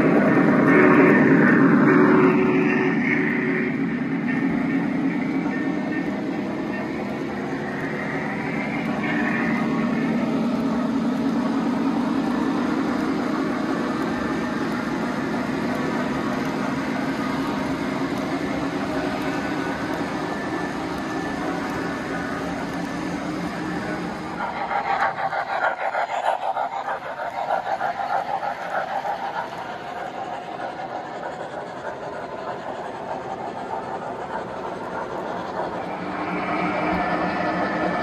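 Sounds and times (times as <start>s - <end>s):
model train wheels rolling on rail: 0.0s - 38.0s.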